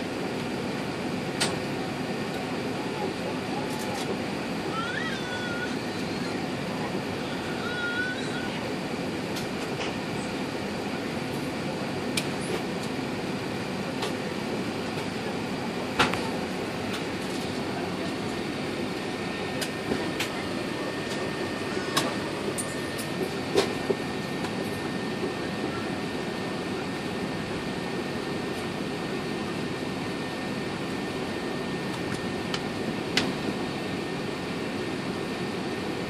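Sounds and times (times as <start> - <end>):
engines and air conditioning rumble: 0.0 - 36.0.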